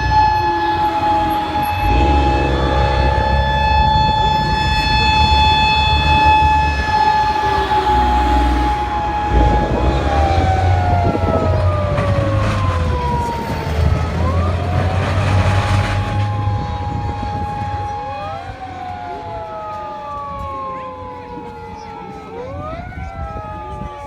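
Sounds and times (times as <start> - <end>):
emergency vehicle siren: 0.0 - 24.0
vehicle engine rumbling: 0.0 - 24.0.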